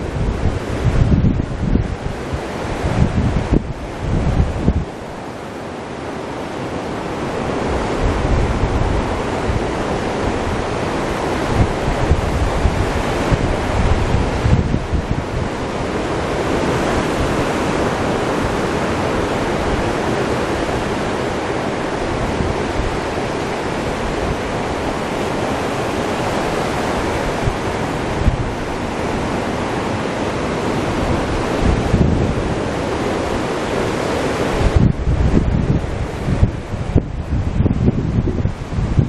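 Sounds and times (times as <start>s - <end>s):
ocean surf breaking on beach: 0.0s - 39.0s
wind buffeting microphone: 0.0s - 39.0s.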